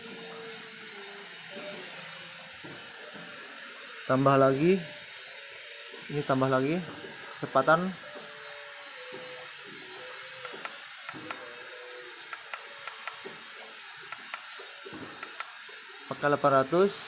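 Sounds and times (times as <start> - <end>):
machine whirring: 0.0 - 17.0.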